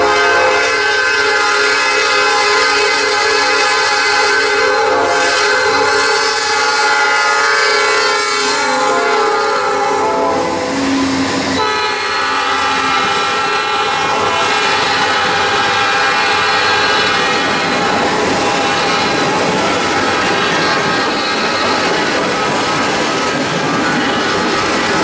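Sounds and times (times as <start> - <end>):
locomotive horn chord: 0.0 - 21.7
freight cars rolling by: 0.0 - 25.0.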